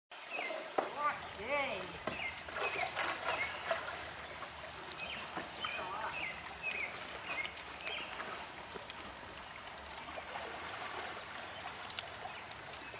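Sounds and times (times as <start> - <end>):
shallow stream rushing: 0.1 - 12.9
birds chirping: 0.2 - 12.9.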